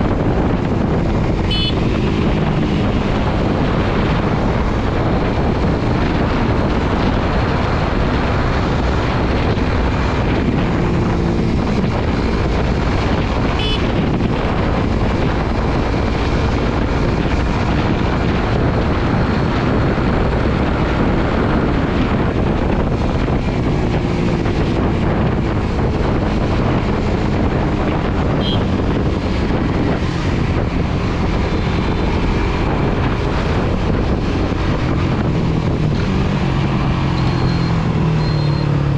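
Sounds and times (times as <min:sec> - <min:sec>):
wind rush on microphone: 0:00.0 - 0:38.9.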